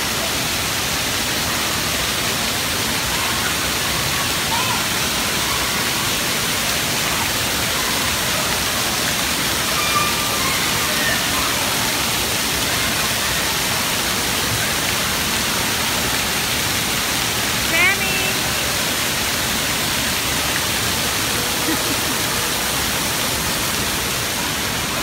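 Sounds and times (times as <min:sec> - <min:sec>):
water spraying and splashing: 0:00.0 - 0:25.0.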